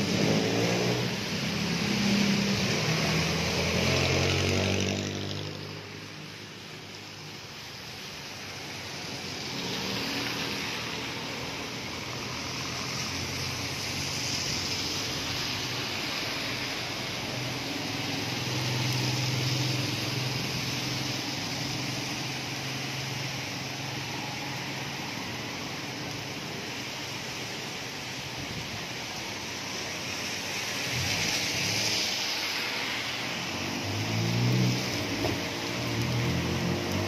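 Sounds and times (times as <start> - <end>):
rain on wet street: 0.0 - 37.0
tyres hissing through water: 0.0 - 37.0.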